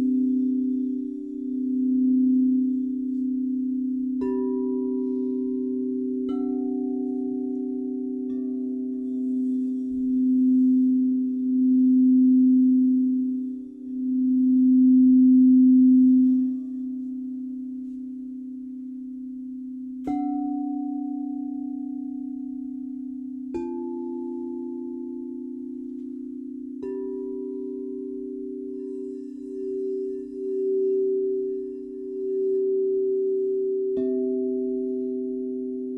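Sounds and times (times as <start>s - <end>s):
low singing bowl ringing: 0.0s - 35.9s.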